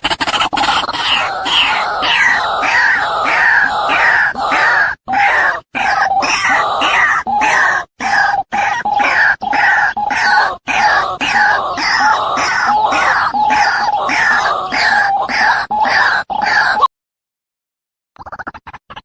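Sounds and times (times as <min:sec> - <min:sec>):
bird calling harshly: 0:00.0 - 0:16.9.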